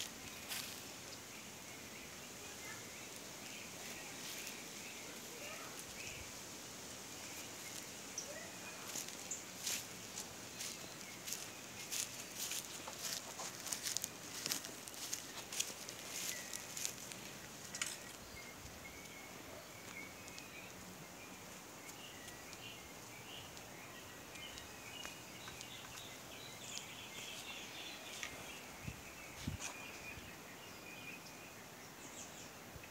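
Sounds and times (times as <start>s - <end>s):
distant birds chirping: 0.0s - 32.9s.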